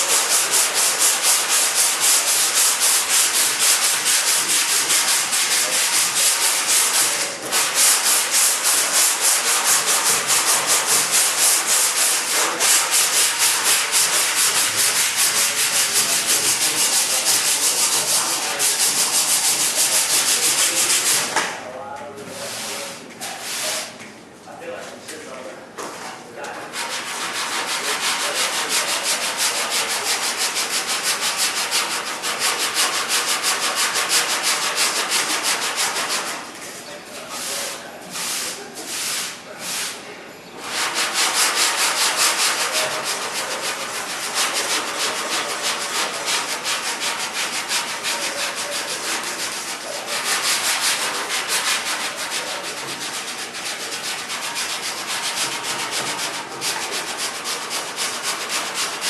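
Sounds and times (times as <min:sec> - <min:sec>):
sandpaper rubbing a surface: 0:00.0 - 0:21.5, 0:22.3 - 0:23.9, 0:25.9 - 0:40.0, 0:40.6 - 0:59.0.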